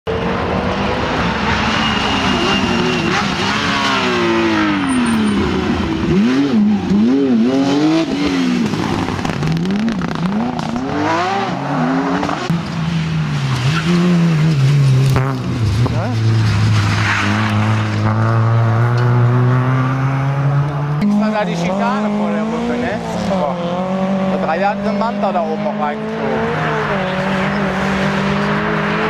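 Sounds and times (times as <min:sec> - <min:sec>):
rally cars passing at speed: 0:00.1 - 0:29.0.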